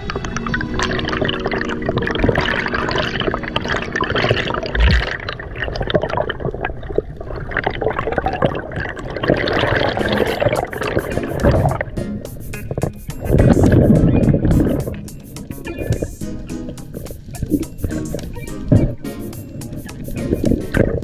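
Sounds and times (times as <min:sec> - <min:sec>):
underwater rushing and bubbling: 0:00.0 - 0:21.0.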